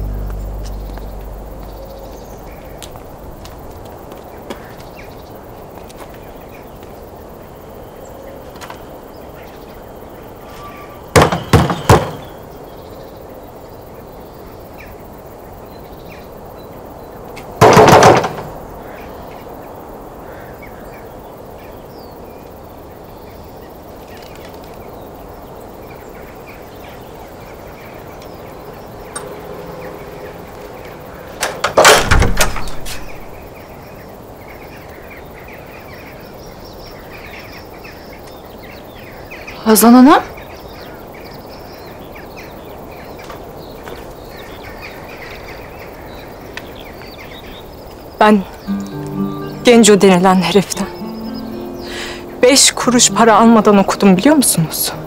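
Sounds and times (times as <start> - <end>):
faint birds: 0.0 - 55.0.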